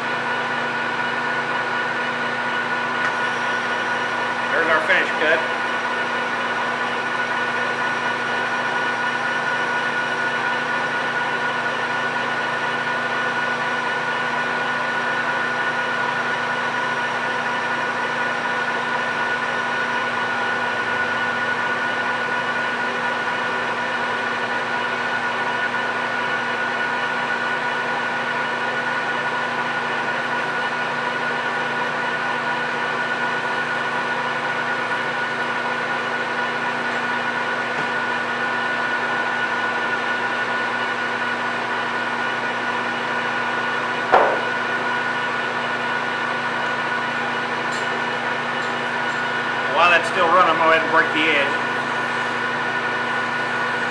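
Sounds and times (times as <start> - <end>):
lathe gear whine: 0.0 - 53.9
lathe motor hum: 0.0 - 53.9.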